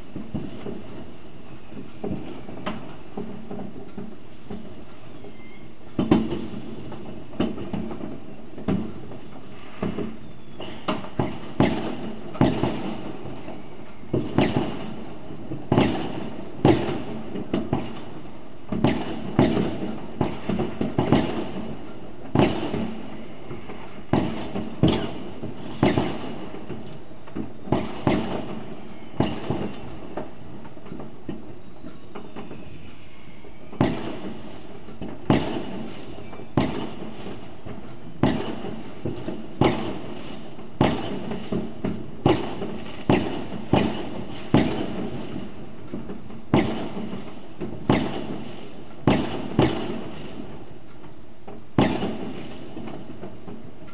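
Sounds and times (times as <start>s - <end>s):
distant fireworks bangs: 0.0s - 53.9s.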